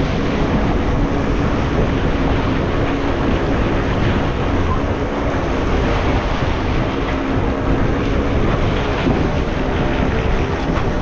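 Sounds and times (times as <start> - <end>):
sea rushing past hulls: 0.0 - 11.0
wind buffeting microphone: 0.0 - 11.0.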